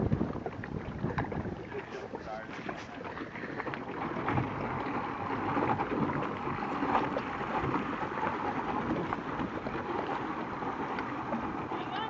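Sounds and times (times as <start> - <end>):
jet churning water: 0.0 - 12.0
personal watercraft idling: 0.0 - 12.0.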